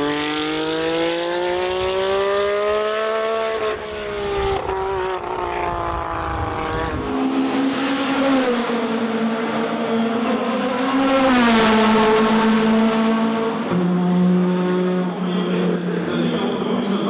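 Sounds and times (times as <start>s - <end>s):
race car engine passing by: 0.0s - 17.0s.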